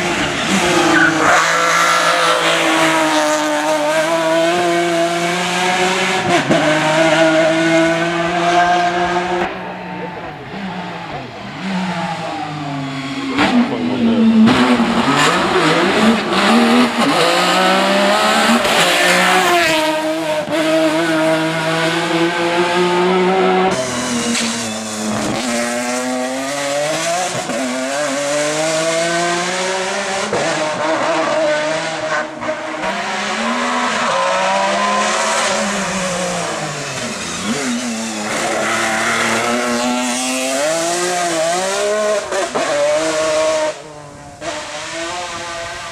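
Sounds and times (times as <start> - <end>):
racing car engine accelerating: 0.0 - 45.9.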